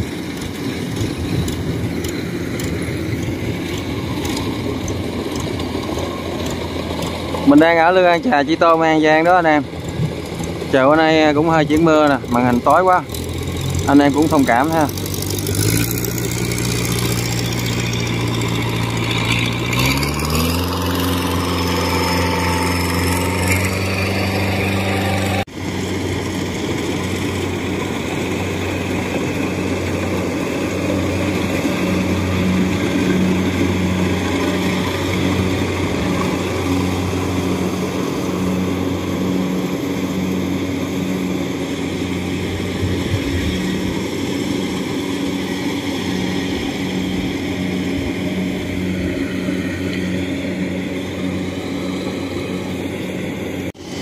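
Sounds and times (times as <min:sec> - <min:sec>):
combine harvester engine running: 0:00.0 - 0:54.0.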